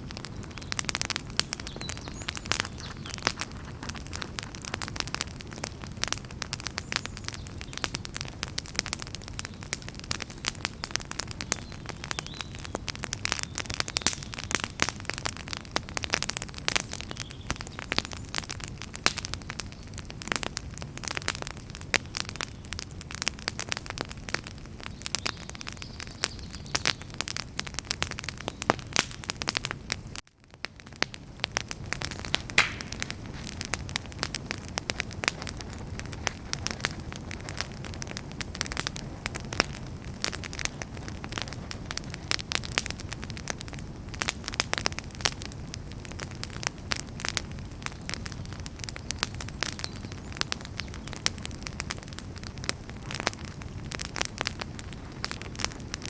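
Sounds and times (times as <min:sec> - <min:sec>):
firewood crackling and popping: 0:00.0 - 0:56.0
low rumble of flames: 0:00.0 - 0:56.0.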